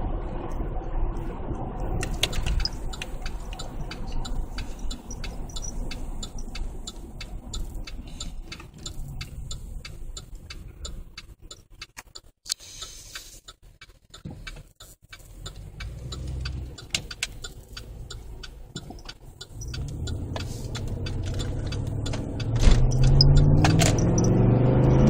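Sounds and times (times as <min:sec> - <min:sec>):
engine exhaust rumble: 0:00.0 - 0:25.0
fast even ticking: 0:02.0 - 0:24.4.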